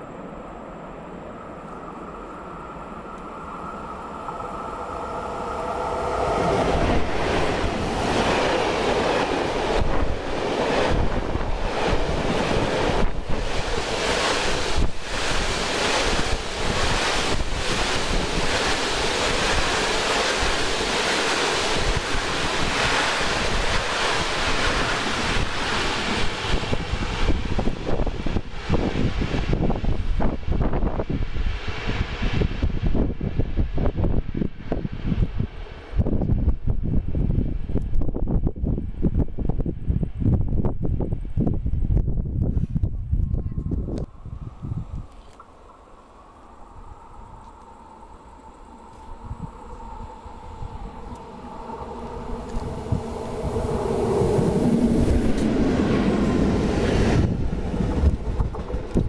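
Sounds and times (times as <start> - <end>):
freight train wheels on rail: 0.0 - 59.0.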